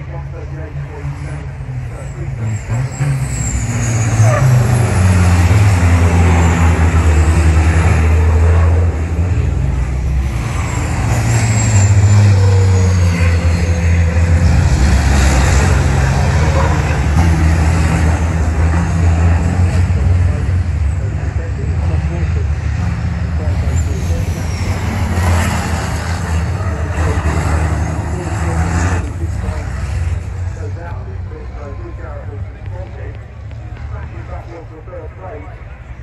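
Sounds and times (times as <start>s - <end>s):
diesel truck engines passing: 0.0s - 36.0s.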